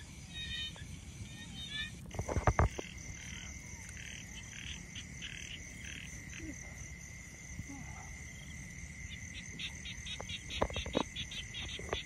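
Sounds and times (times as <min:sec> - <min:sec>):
frogs croaking: 0:00.0 - 0:12.0
high-pitched insect trill: 0:00.0 - 0:12.0.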